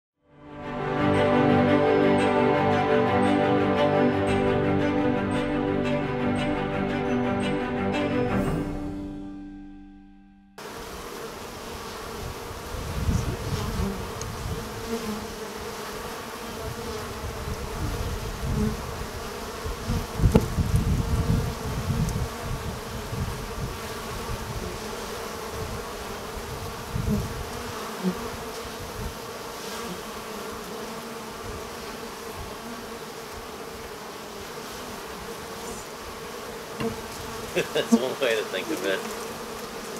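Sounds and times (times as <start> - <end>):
bees buzzing: 0.4 - 9.6, 10.6 - 39.9.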